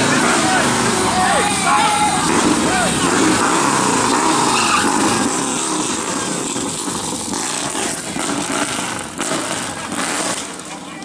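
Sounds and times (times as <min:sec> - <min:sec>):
motor vehicle running: 0:00.0 - 0:11.0
road and wind noise rush: 0:00.0 - 0:11.0.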